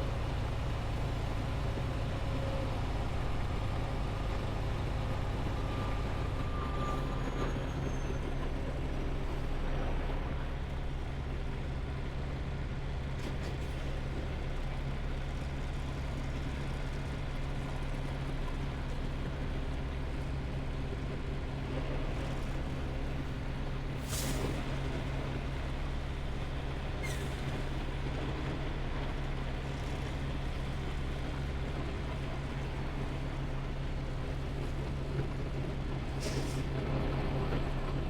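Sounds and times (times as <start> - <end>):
truck engine droning: 0.0 - 38.0.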